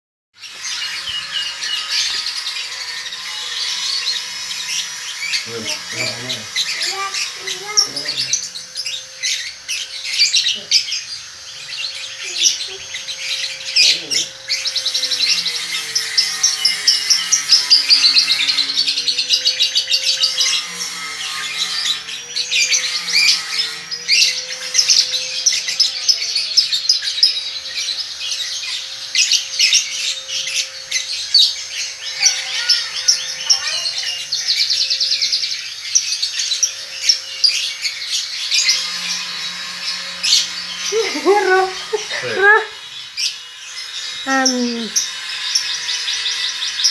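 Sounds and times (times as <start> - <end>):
lovebird chirps and trills: 0.4 - 46.9.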